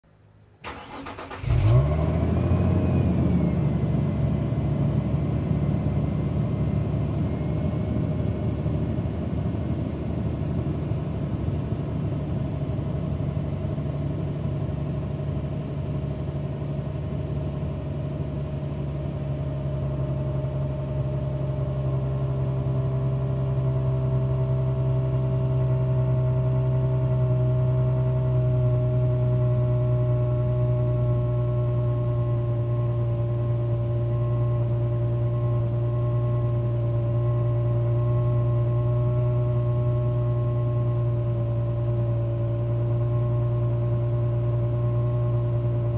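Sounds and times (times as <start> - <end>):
car engine starting and idling: 0.6 - 45.9.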